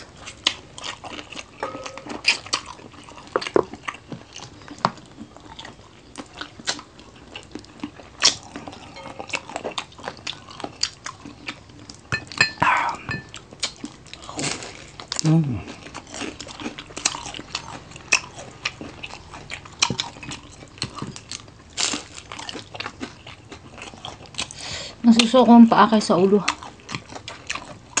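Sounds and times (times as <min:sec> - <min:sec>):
chewing and crunching: 0:00.0 - 0:28.0.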